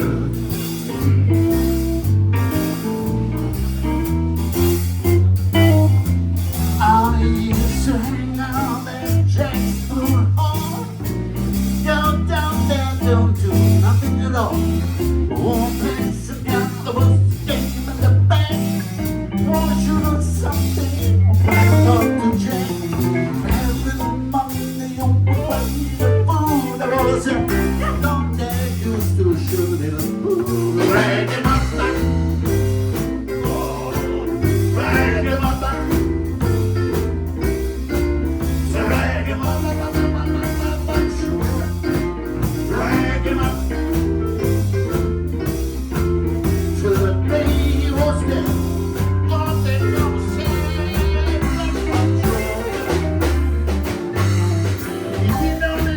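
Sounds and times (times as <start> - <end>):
blues guitar lead lines: 0.0 - 55.9
steady drum beat: 0.0 - 55.9
walking bass: 0.0 - 55.9.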